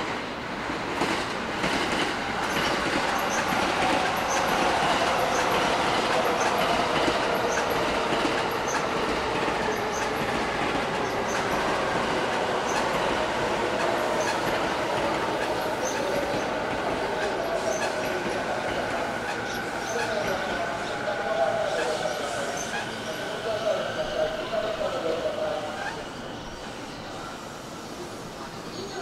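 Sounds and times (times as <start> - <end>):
train wheels clacking and squealing: 0.0 - 29.0.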